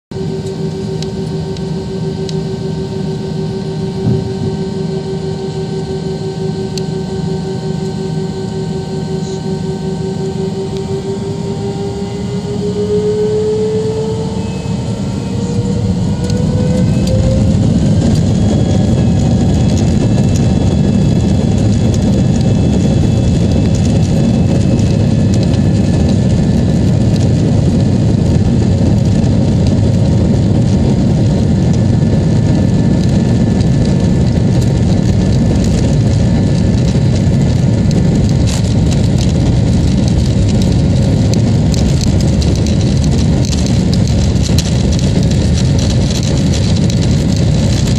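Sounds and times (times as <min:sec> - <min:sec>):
jet engines roaring: 0:00.1 - 0:47.9.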